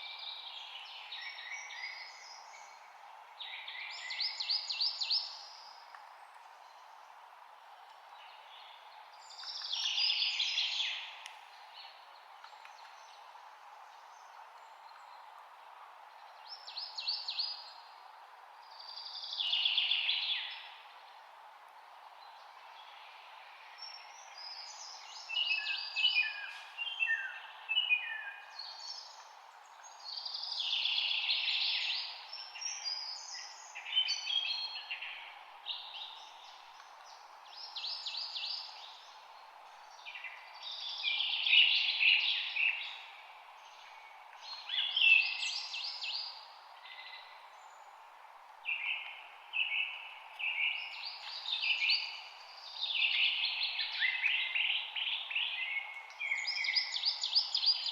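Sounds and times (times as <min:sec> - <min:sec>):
background hiss: 0:00.0 - 0:57.9
songbirds chirping and trilling: 0:00.0 - 0:57.9.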